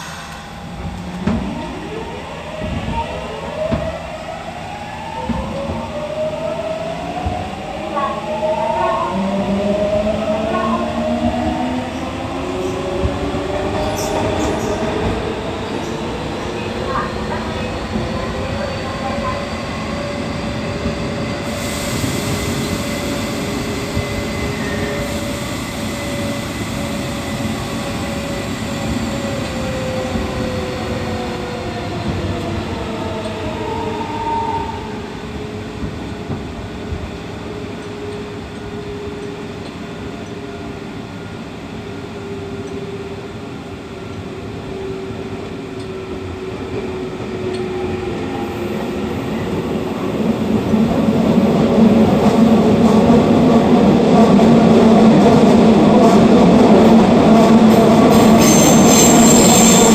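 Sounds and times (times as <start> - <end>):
train wheel and track rumble: 0.0 - 59.9.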